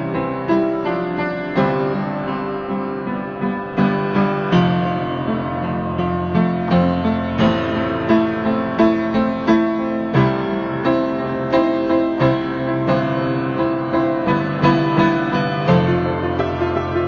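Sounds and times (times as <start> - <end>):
piano chords with bass line: 0.0 - 17.0.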